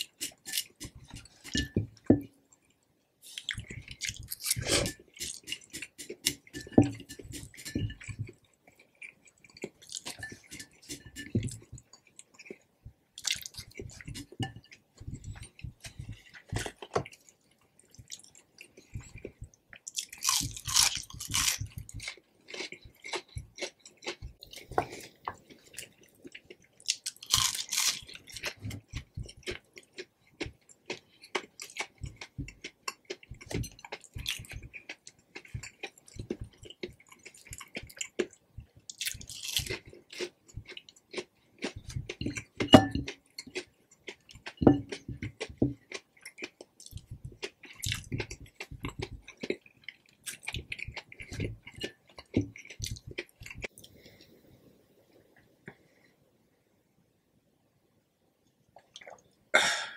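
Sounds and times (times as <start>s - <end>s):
chewing with mouth clicks: 0.0s - 54.3s, 58.8s - 59.3s.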